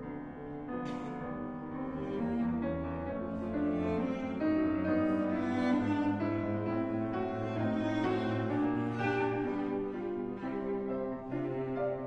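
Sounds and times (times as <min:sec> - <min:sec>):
piano: 0:00.0 - 0:12.0
slow bowed strings: 0:00.0 - 0:12.0.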